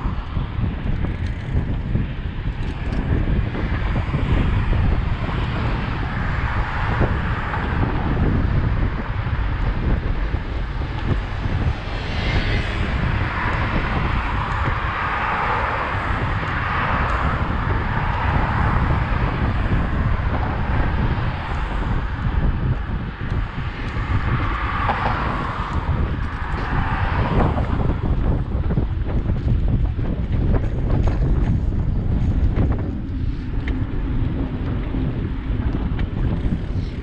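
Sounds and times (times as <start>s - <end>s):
road traffic passing: 0.0s - 37.0s
wind rumbling on microphone: 0.0s - 37.0s.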